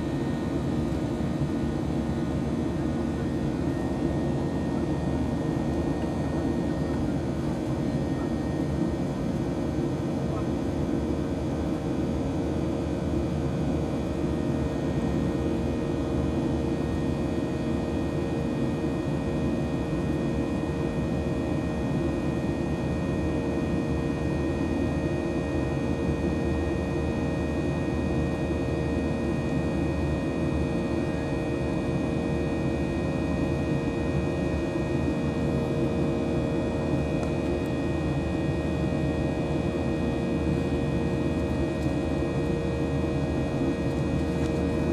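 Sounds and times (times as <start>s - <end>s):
airplane cabin drone: 0.0s - 44.9s.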